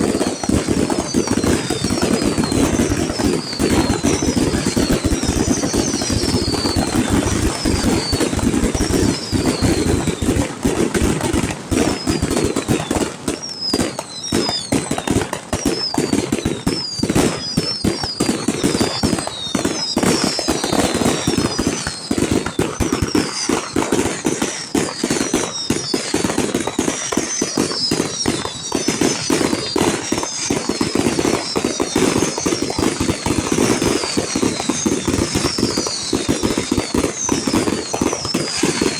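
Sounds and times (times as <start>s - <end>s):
fireworks crackling and popping: 0.0s - 38.9s
fireworks falling whistles: 0.0s - 38.9s.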